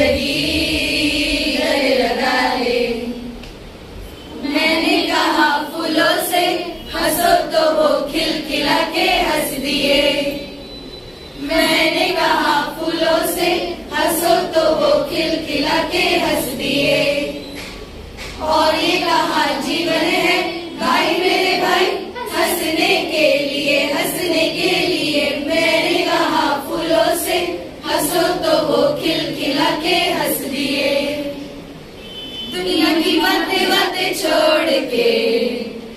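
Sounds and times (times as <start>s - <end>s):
women singing together: 0.0s - 10.8s, 11.4s - 31.8s, 32.5s - 35.9s.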